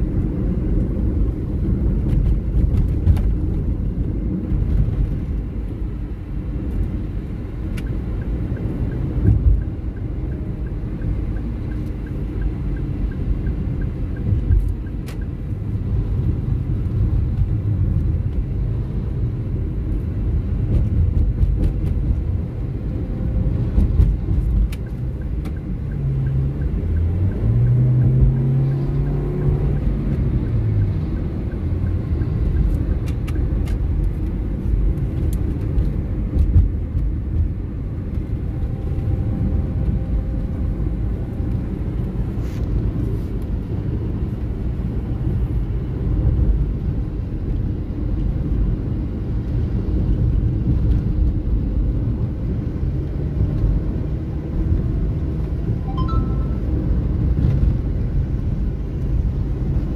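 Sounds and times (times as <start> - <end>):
truck engine hum: 0.0 - 59.9.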